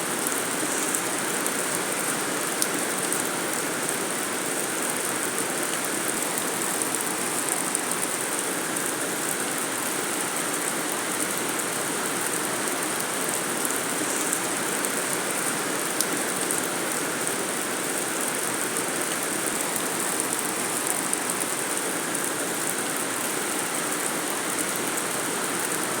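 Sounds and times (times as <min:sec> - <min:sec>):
rain on a metal roof: 0:00.0 - 0:26.0.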